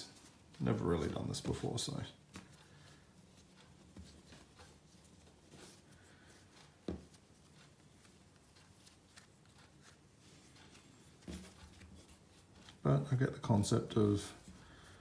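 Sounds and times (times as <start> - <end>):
hands rubbing and patting dough: 0.0 - 15.0.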